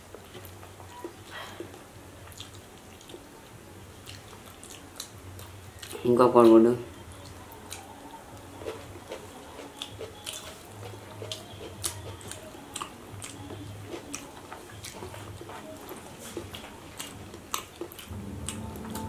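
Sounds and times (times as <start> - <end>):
chewing: 0.1 - 19.0.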